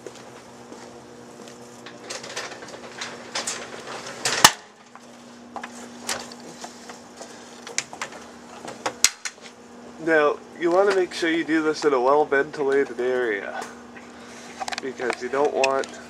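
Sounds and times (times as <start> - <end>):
microwave oven humming: 0.0 - 16.0
electrical arcing crackling and snapping: 1.2 - 16.0.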